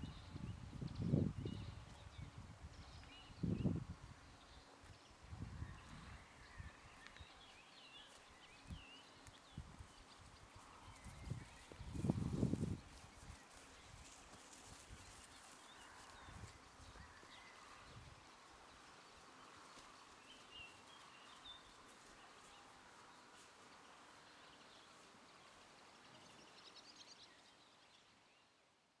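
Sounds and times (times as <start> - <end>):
small birds chirping: 0.0 - 28.6.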